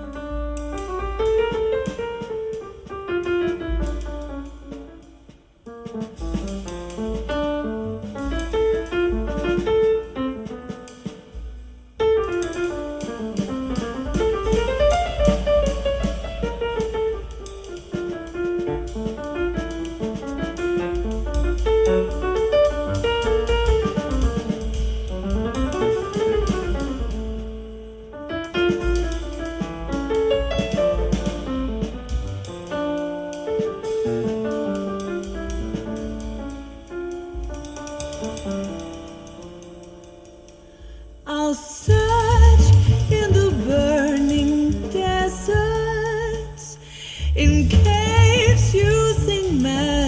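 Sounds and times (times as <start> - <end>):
instrumental music with piano and drums: 0.0 - 50.0.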